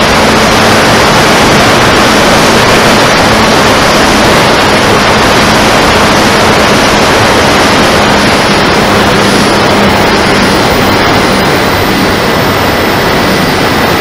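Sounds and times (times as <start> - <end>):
rushing wind noise: 0.0 - 14.0.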